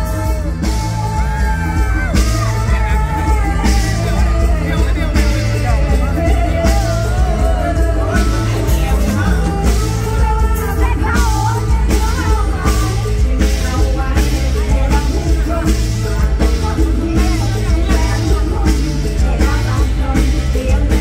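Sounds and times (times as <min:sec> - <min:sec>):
band playing drums bass and keyboards: 0:00.0 - 0:21.0
person singing: 0:00.0 - 0:21.0.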